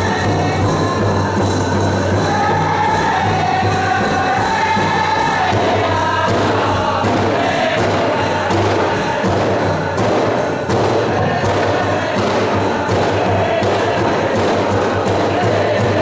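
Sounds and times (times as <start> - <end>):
big drum beating: 0.0 - 16.0
group singing in unison: 0.0 - 16.0.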